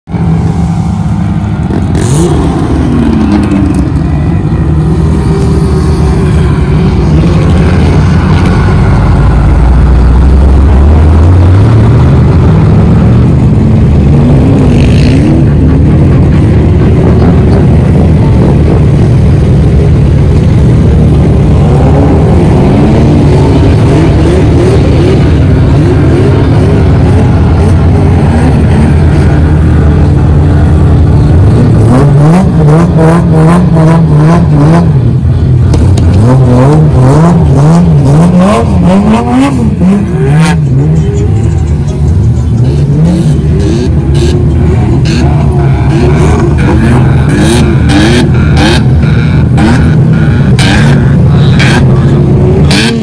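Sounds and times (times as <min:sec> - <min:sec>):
off-road vehicle engines revving: 0:00.0 - 0:53.0.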